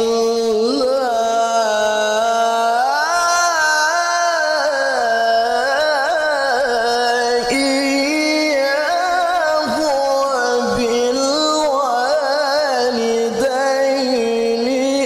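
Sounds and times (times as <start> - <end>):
man reciting in melismatic chant: 0.0 - 15.0.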